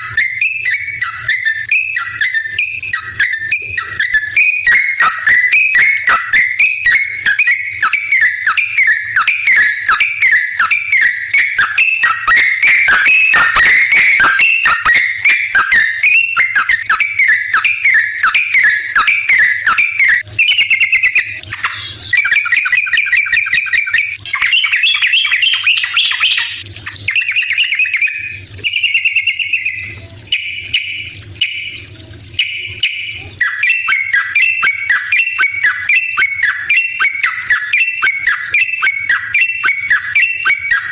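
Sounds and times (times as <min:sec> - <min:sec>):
bird singing bubbly whistled notes: 0:00.0 - 0:40.9.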